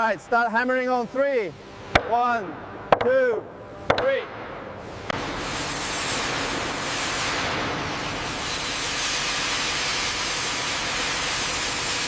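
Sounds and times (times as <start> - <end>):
steady loud hiss: 0.0 - 12.0.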